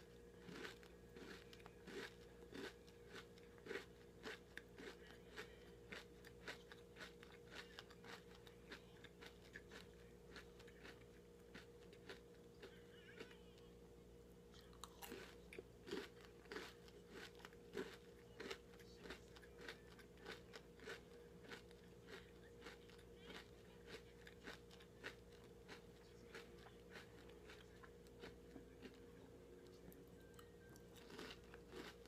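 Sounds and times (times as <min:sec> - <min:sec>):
chocolate bar crunching: 0:00.1 - 0:13.4, 0:14.5 - 0:29.7, 0:30.3 - 0:32.0.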